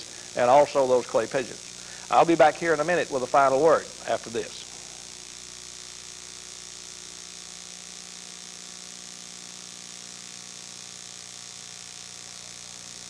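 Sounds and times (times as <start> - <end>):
low electrical hum: 0.0 - 13.0
tape hiss: 0.0 - 13.0.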